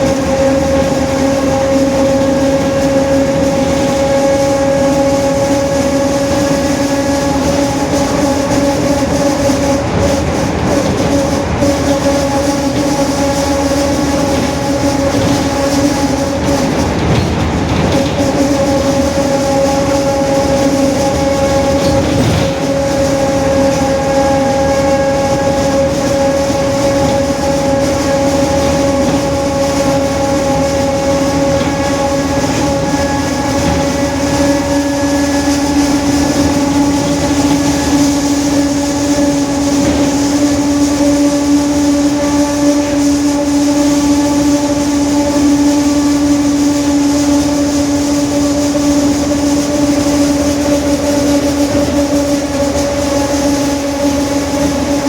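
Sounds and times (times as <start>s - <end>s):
bus differential whine: 0.0s - 55.0s
engine and road rumble: 0.0s - 55.0s.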